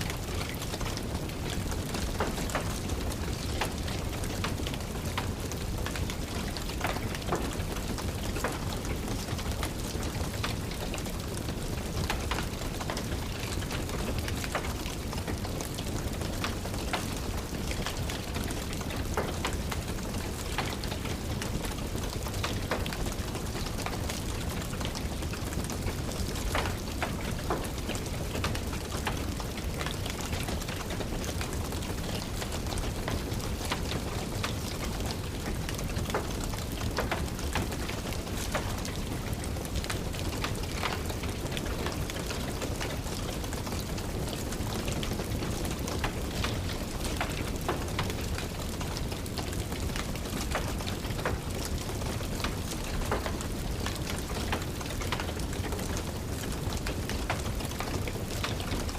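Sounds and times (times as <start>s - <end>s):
steady rain: 0.0s - 58.9s
wood fire crackling and popping: 0.1s - 58.9s.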